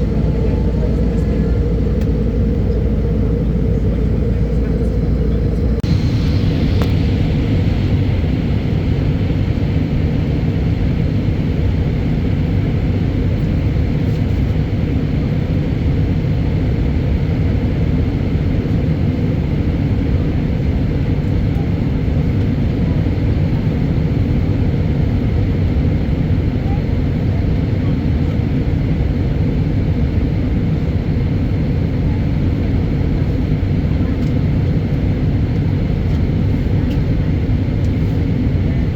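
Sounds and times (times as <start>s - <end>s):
airliner engines rumbling: 0.0s - 38.9s.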